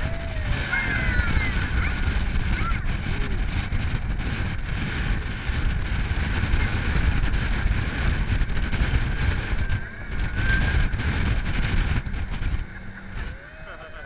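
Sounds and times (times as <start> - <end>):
vehicle engine rumble: 0.0 - 14.0
wind buffeting microphone: 0.0 - 14.0.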